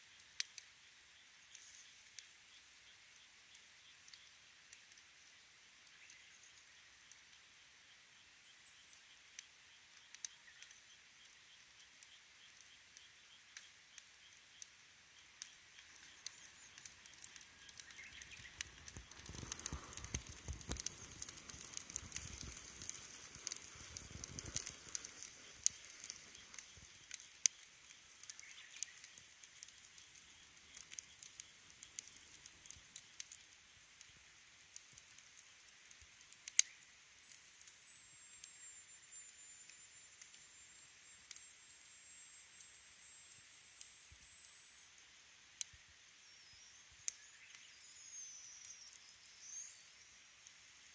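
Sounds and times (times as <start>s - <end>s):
campfire crackling and popping: 0.1s - 41.9s, 47.0s - 49.4s.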